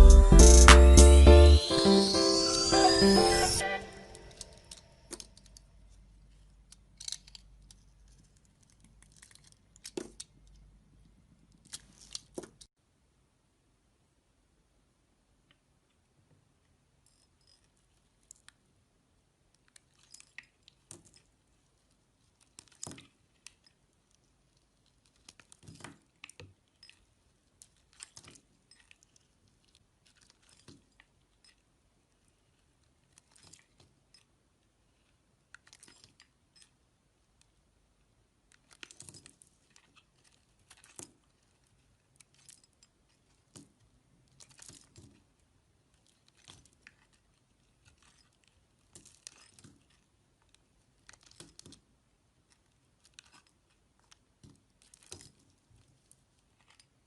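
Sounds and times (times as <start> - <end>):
knife carving soap: 5.1 - 12.7, 16.8 - 37.6, 38.4 - 57.0.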